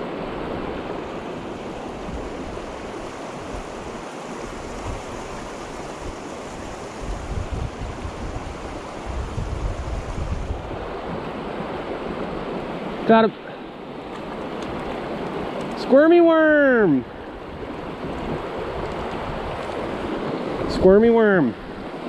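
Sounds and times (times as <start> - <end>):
wind rumbling on microphone: 0.0 - 13.0, 16.5 - 22.0
creek water rushing: 0.0 - 22.0.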